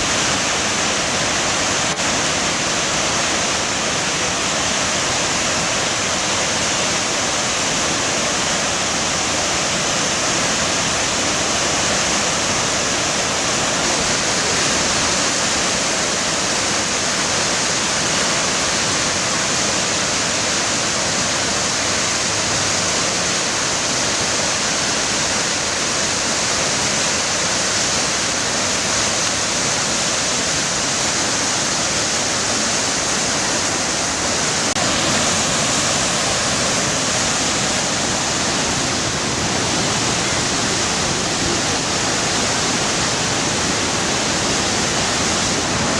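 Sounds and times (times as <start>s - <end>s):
floodwater rushing through rapids: 0.0s - 45.9s.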